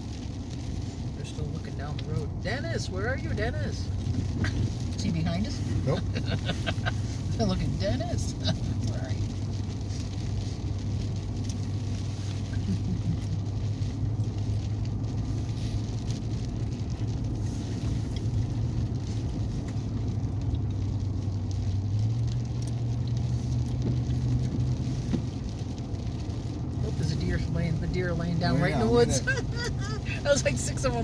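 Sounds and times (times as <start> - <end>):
tyre and road noise: 0.0 - 31.0
vehicle engine hum: 0.0 - 31.0.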